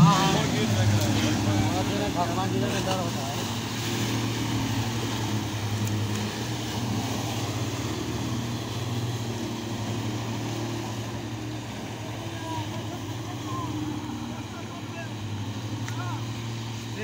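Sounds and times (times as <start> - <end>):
outboard motor running: 0.0 - 17.0
propeller churning water: 0.0 - 17.0.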